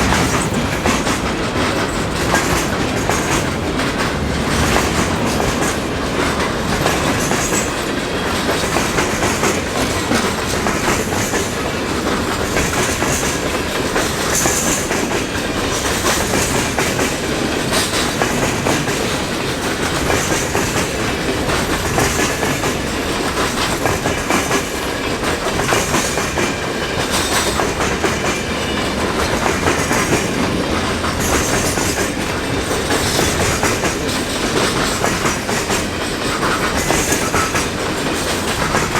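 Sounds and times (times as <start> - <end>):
freight train wheels rumbling: 0.0 - 38.9
wheels clicking over rail joints: 0.0 - 38.9.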